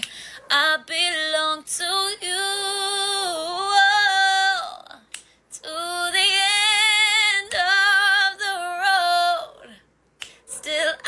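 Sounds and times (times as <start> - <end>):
woman singing a cappella: 0.0 - 9.8, 10.5 - 11.0.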